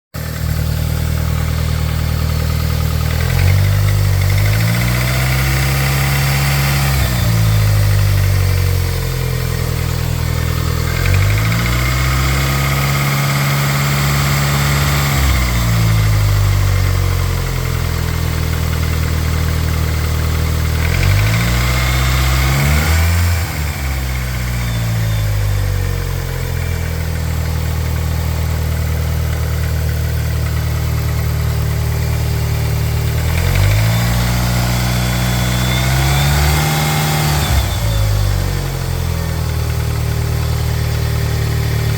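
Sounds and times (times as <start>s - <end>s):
engine knocking: 0.2s - 23.1s, 23.7s - 34.4s, 37.9s - 41.9s
car engine idling and revving: 0.2s - 41.9s.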